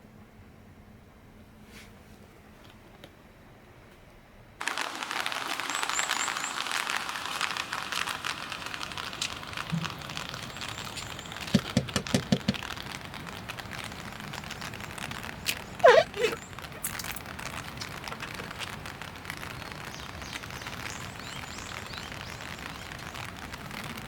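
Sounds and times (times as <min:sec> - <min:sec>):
heavy rain on camper shell: 0:04.6 - 0:24.0.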